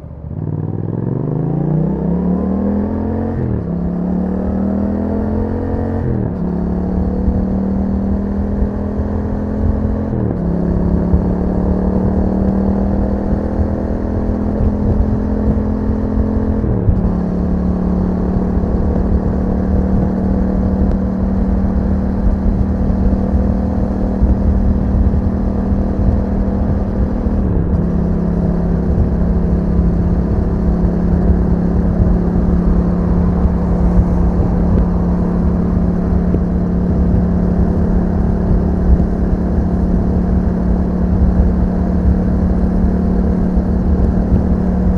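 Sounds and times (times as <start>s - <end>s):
motorcycle engine shifting gears: 0.0s - 44.9s.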